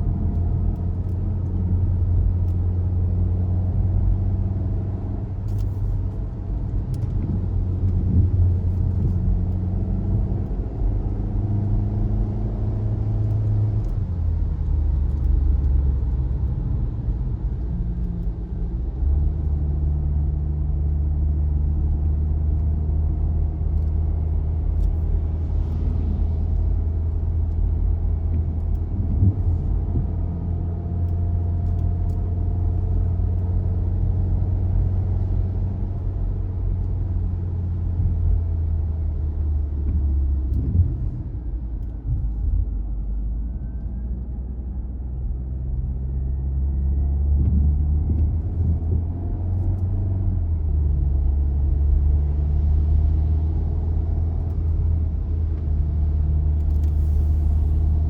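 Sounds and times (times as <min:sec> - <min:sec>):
car engine hum: 0:00.0 - 0:58.0
road noise: 0:00.0 - 0:58.0.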